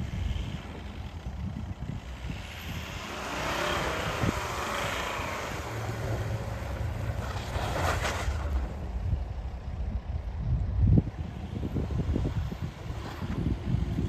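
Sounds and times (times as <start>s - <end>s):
diesel engine running under load: 0.0s - 7.6s, 8.4s - 14.0s
rushing noise of driving through snow: 0.0s - 14.0s.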